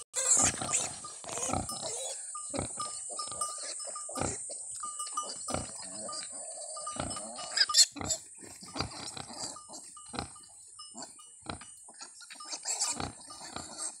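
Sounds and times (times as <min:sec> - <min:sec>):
piglets squeaking: 0:00.2 - 0:14.0
pigs grunting: 0:00.2 - 0:14.0.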